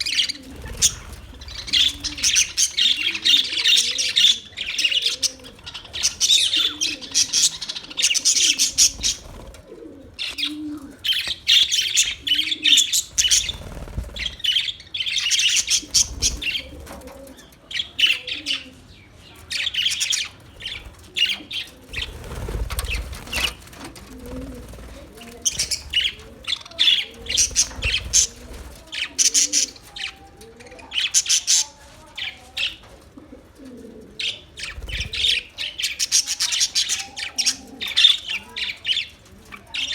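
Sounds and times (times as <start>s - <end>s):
parrots chirping and chattering: 0.0s - 32.9s, 34.2s - 39.9s.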